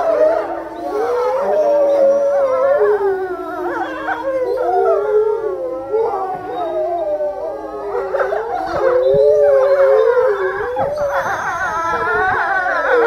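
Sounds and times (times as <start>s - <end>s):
wolves howling in chorus: 0.0s - 13.0s.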